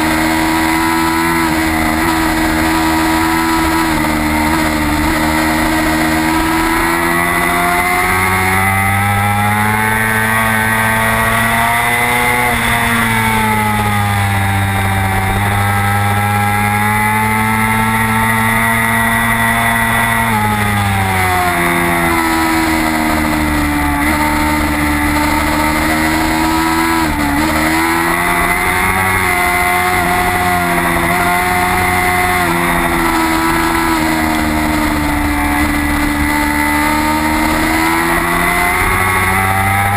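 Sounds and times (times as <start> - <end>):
racing motorcycle engine high revs: 0.0 - 39.9.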